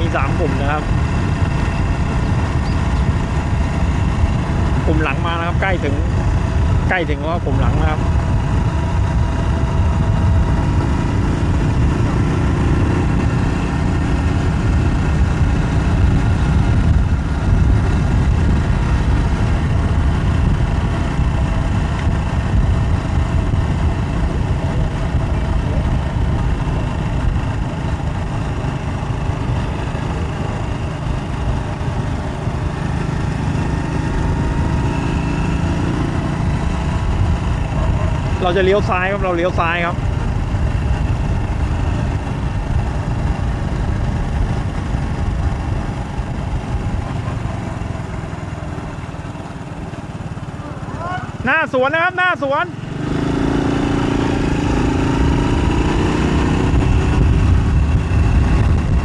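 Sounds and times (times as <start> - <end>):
faint engine hum: 0.0 - 59.0
wind and road noise: 0.0 - 59.0.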